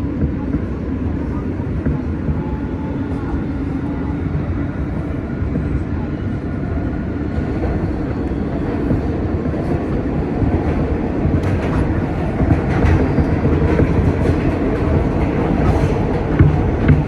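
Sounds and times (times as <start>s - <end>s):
rumble of wheels on rail: 0.0s - 17.0s.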